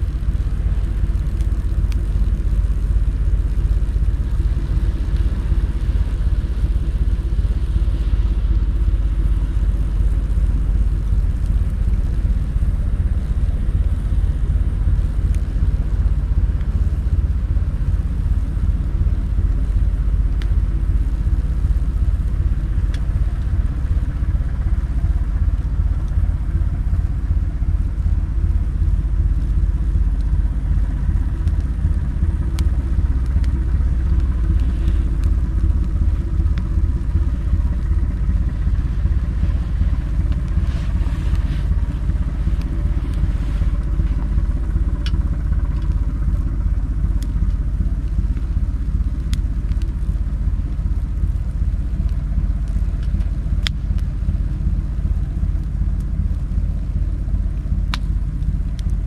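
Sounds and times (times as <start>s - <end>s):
campfire crackles and pops: 0.0s - 59.0s
fire low rumble: 0.0s - 59.0s.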